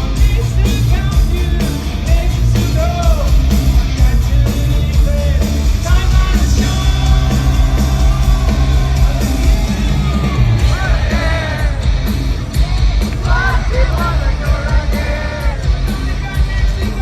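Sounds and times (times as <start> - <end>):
hard rock band playing: 0.0 - 17.0
voices singing and yelling: 0.0 - 17.0.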